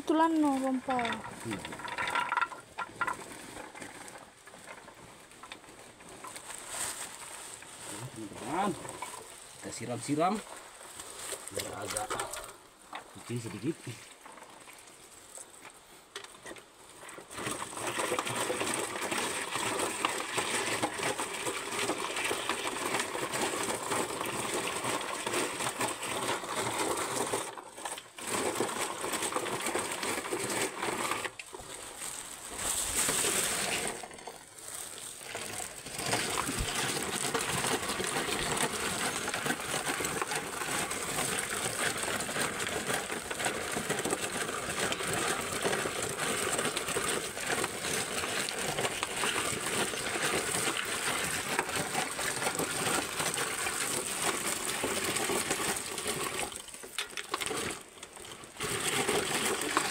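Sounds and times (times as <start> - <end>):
coffee pulper rattling clatter: 0.0 - 59.9.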